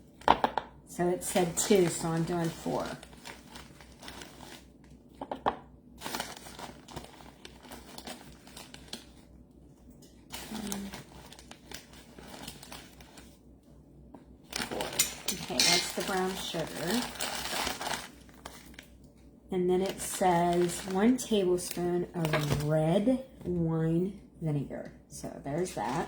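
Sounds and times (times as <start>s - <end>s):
sugar crinkling and rustling: 1.0s - 13.5s, 14.4s - 23.4s, 25.2s - 26.0s.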